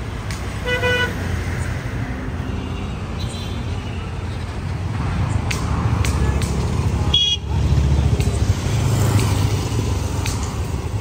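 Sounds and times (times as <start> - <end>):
traffic engines rumbling: 0.0 - 11.0.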